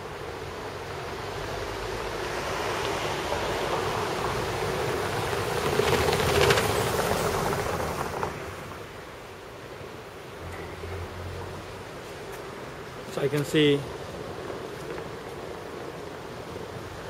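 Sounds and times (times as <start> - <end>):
car tyres on wet cobbles: 0.3 - 9.7, 10.4 - 17.0.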